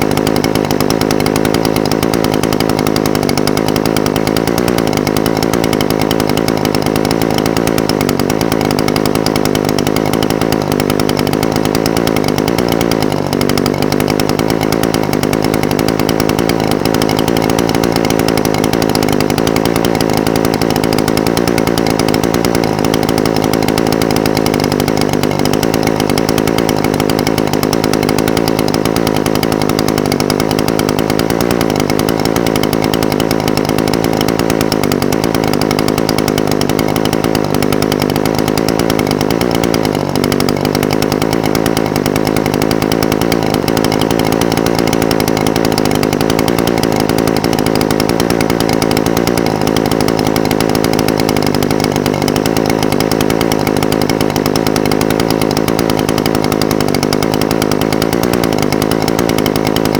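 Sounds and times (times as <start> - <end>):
brush cutter engine idling: 0.0 - 59.9.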